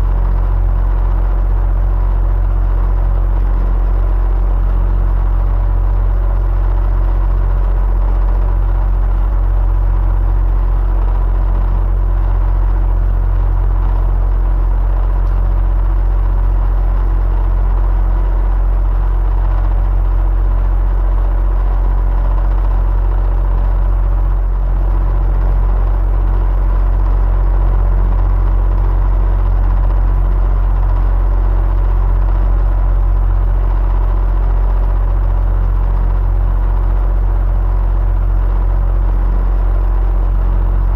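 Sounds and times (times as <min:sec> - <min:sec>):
electric fan humming: 0:00.0 - 0:40.9.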